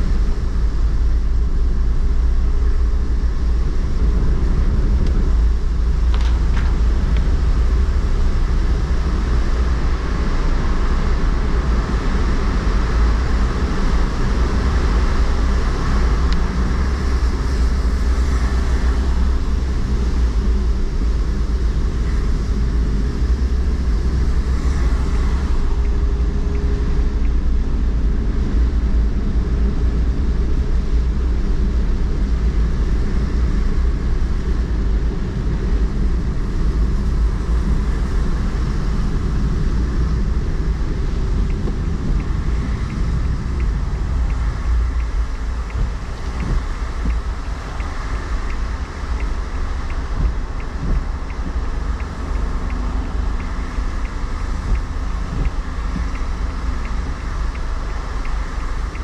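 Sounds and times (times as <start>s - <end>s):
road and tyre rumble: 0.0s - 59.0s
wind noise: 0.0s - 59.0s.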